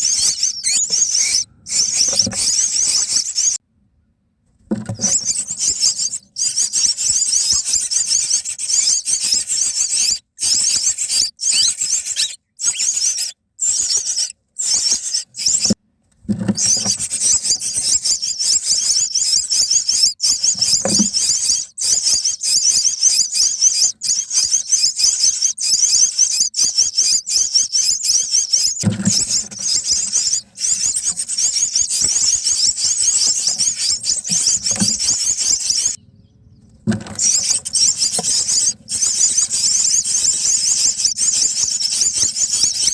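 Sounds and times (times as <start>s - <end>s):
nestlings squeaky begging calls: 0.0s - 3.6s, 4.9s - 15.8s, 16.6s - 36.0s, 37.0s - 42.9s.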